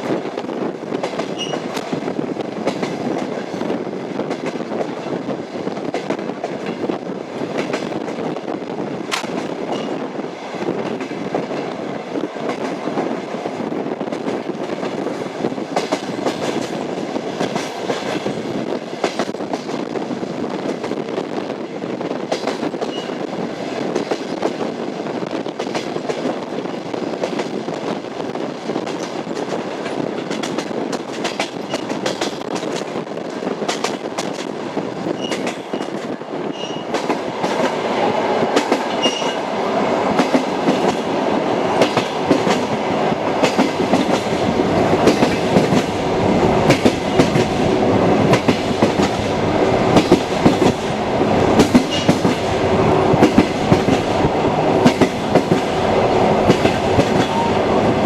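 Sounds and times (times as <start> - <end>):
train wheels knocking on rail joints: 0.0 - 21.3, 22.2 - 24.8, 28.6 - 58.0
railway car rumble: 0.0 - 58.0.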